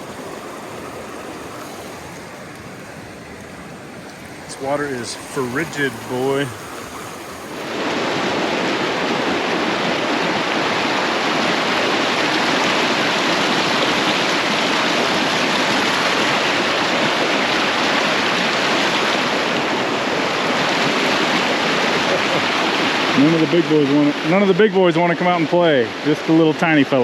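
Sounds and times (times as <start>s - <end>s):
stream rushing: 0.0s - 27.0s.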